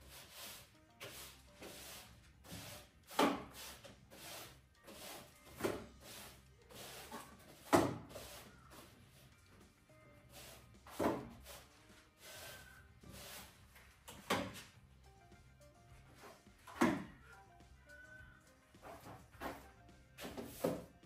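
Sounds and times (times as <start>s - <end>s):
broom sweeping floor: 0.0s - 9.3s, 10.2s - 14.7s, 16.1s - 17.0s, 18.7s - 21.0s.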